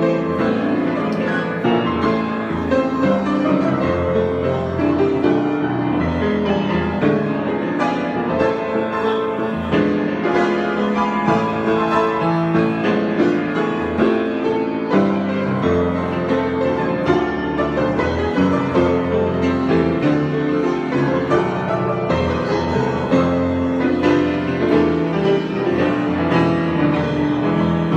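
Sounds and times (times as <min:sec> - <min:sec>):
solo piano improvisation: 0:00.0 - 0:27.9.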